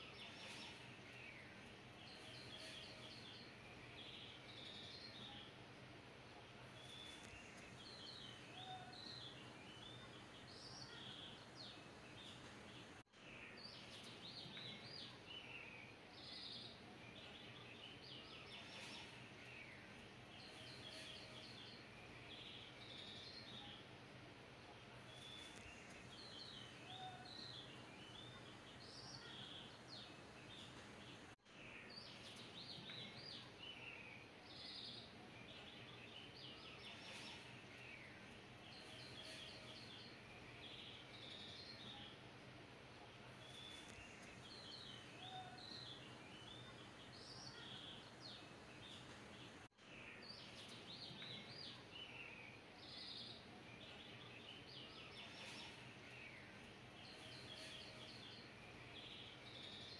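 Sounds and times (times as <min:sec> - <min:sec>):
small birds chirping: 0:00.0 - 0:59.9
steady low hiss: 0:00.0 - 0:59.9.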